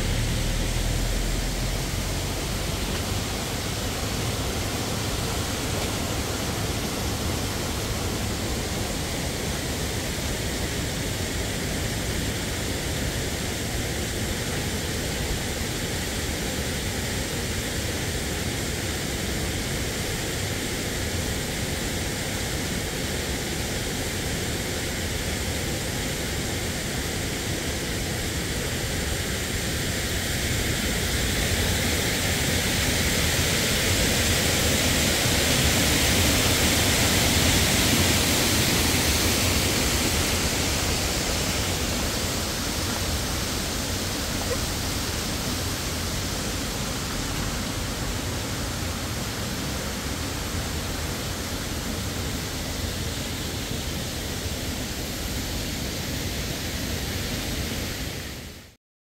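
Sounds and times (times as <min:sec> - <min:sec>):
waterfall rushing: 0:00.0 - 0:58.6.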